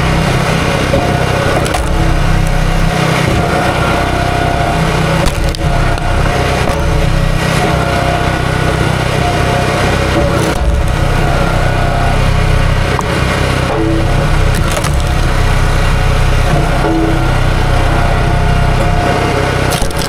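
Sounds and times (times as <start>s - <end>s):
small gasoline engine running: 0.0s - 20.0s
wood cracking and splintering: 0.0s - 20.0s.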